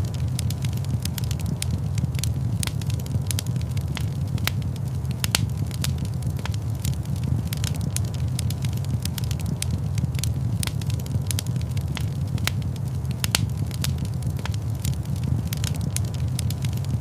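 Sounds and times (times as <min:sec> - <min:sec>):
fire popping and snapping: 0:00.0 - 0:17.0
low rumble of flames: 0:00.0 - 0:17.0.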